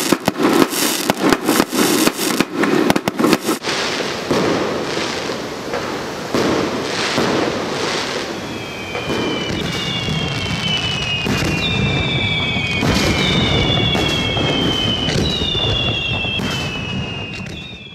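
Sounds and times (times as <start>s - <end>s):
firework whistles falling in pitch: 0.0s - 3.6s, 7.1s - 17.9s
fireworks bursting with bangs: 0.0s - 17.9s.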